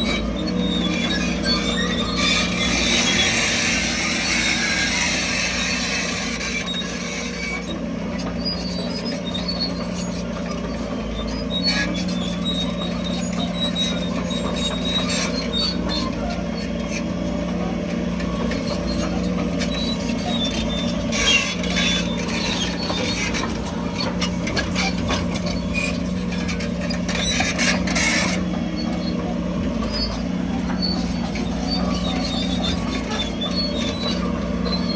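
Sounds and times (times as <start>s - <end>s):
heavy diesel machinery running: 0.0s - 34.9s
metallic squeaks and clicks: 0.0s - 34.9s.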